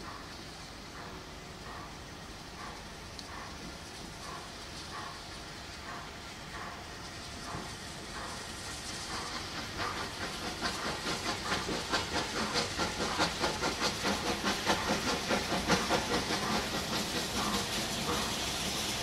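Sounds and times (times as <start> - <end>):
steam hissing: 0.0 - 19.0
steam locomotive exhaust beats: 0.0 - 19.0.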